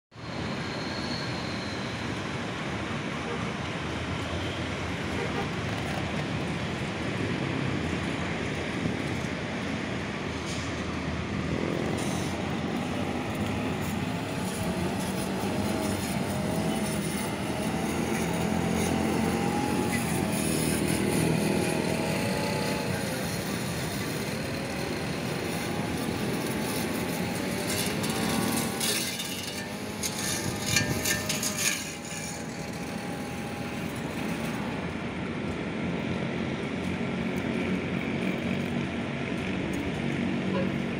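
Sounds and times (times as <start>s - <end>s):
road traffic rumble: 0.1s - 40.9s
motorcycle engines passing: 4.9s - 40.9s.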